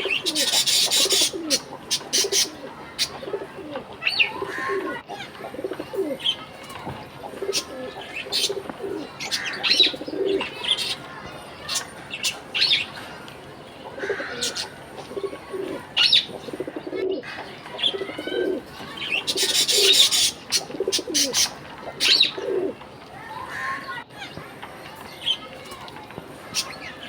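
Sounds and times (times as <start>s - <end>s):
budgerigars chirping and chattering: 0.0s - 22.8s, 26.4s - 27.0s.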